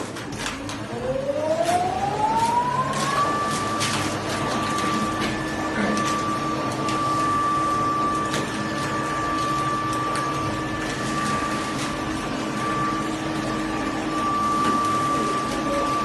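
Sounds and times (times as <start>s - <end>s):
electric motor whine: 0.8s - 16.0s.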